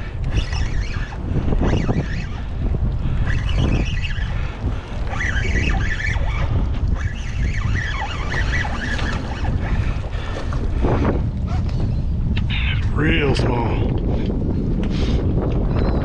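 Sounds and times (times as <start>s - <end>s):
water lapping around boat: 0.0s - 15.8s
wind buffeting microphone: 0.0s - 16.0s.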